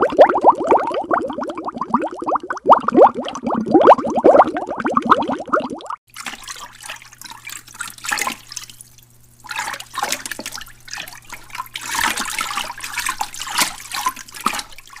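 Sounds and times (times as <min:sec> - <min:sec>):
fish splashing and slurping: 0:02.1 - 0:15.0.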